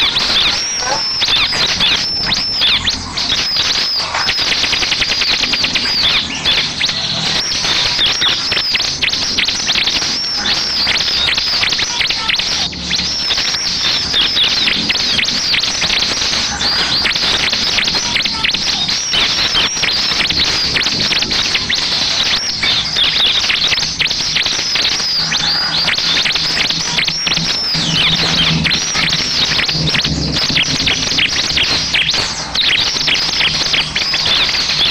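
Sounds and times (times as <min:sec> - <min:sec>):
bird chirps and trills: 0:00.0 - 0:34.9.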